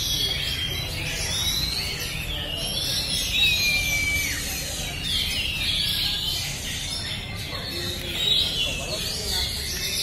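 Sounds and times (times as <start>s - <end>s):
birds singing whistled phrases: 0.0s - 10.0s.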